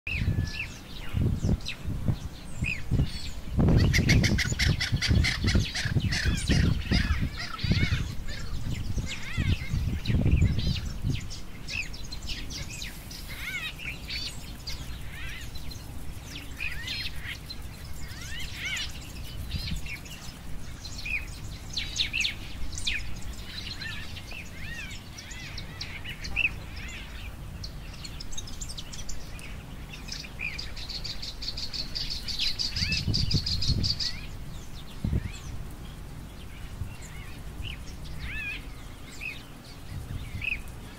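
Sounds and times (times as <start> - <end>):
birds chirping and calling: 0.1 - 40.9.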